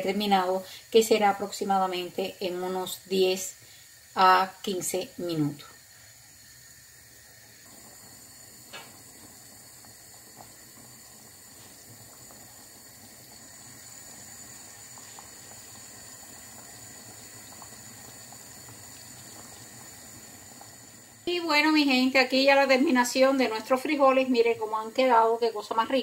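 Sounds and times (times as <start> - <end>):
stew bubbling in a pot: 0.0 - 26.0.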